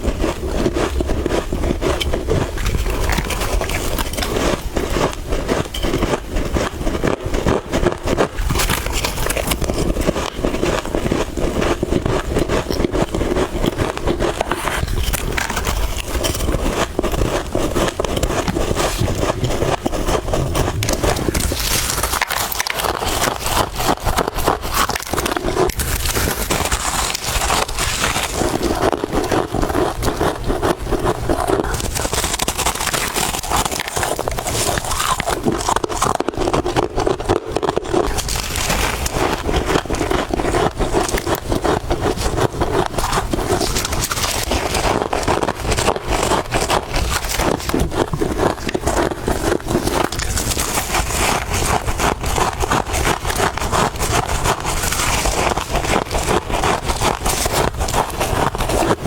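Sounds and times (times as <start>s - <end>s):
frost being chewed crunching: 0.0s - 59.0s.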